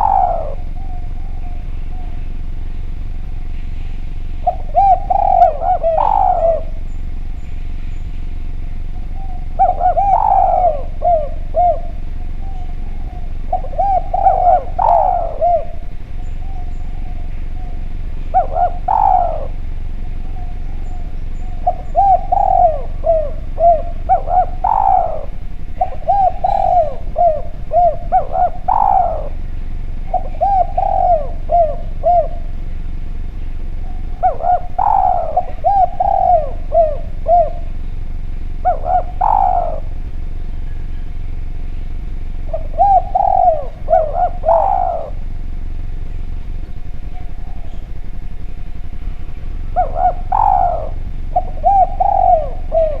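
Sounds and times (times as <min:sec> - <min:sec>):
dove cooing: 0:00.0 - 0:53.0
faint steady hum: 0:00.0 - 0:53.0.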